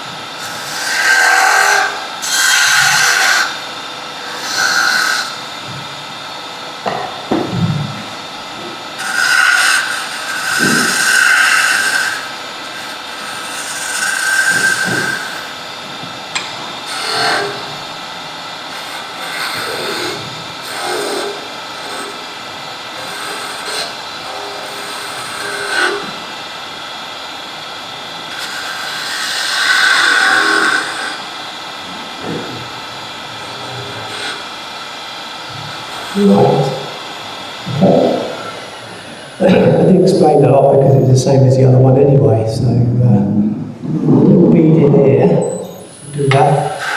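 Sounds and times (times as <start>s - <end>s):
turning tool cutting wood: 0.0s - 40.3s, 45.4s - 46.9s
wood lathe running: 0.0s - 42.6s, 45.3s - 46.9s.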